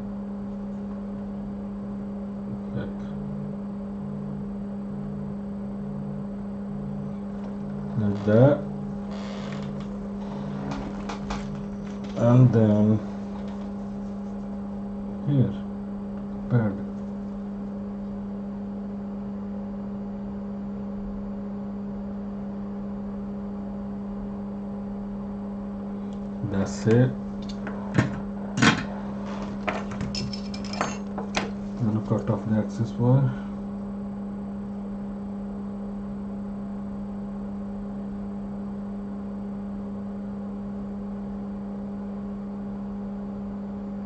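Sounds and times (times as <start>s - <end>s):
lower hum switching on and off: 0.0s - 44.0s
steady electrical hum: 0.0s - 44.0s.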